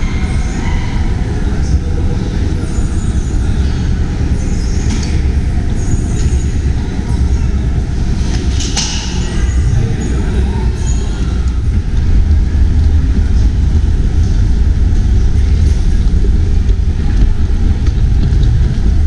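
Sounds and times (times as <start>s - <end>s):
low rumble of moving vehicle: 0.0s - 19.0s.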